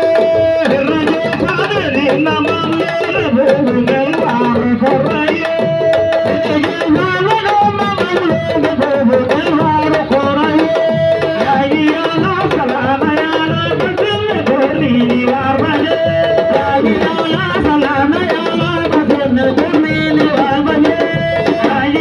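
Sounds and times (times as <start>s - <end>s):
fast hand drumming: 0.0s - 22.0s
voices singing: 0.0s - 22.0s.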